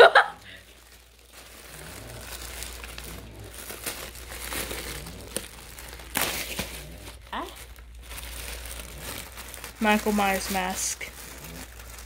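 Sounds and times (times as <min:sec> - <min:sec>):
plastic packaging crinkling: 0:00.1 - 0:12.0.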